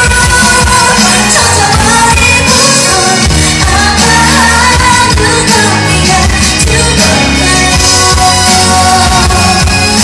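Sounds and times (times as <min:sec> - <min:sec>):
pop backing music over loudspeakers: 0:00.0 - 0:10.0
woman singing: 0:00.0 - 0:10.0.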